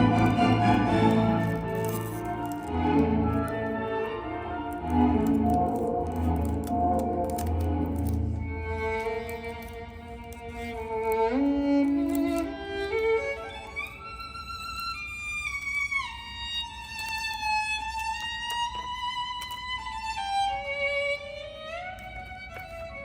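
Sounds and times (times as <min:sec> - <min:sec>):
solo violin slow melody: 0:00.0 - 0:23.0.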